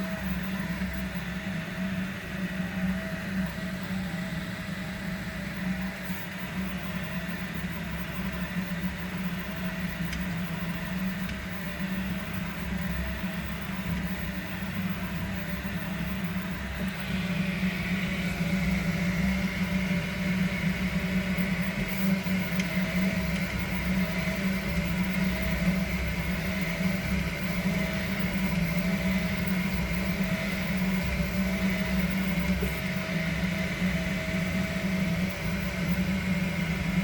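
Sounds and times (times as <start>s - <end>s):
extruder humming: 0.0s - 37.0s.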